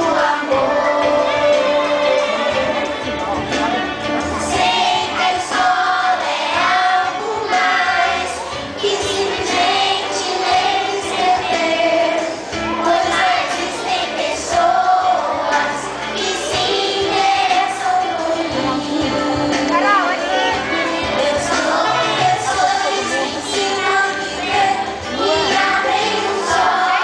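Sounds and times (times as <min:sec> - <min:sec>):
children singing: 0:00.0 - 0:27.0
musical accompaniment: 0:00.0 - 0:27.0.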